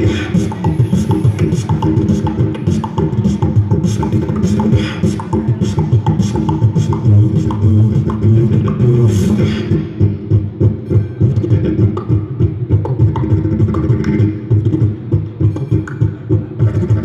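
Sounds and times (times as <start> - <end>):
beatboxing into a microphone: 0.0 - 17.0
didgeridoo drone: 0.0 - 17.0.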